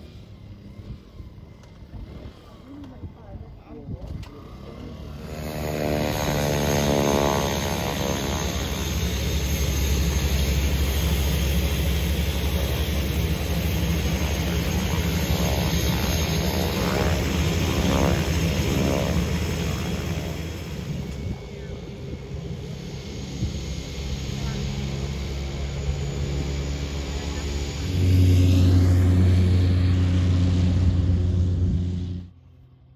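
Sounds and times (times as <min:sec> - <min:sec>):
turboprop plane propeller drone: 0:00.0 - 0:32.9.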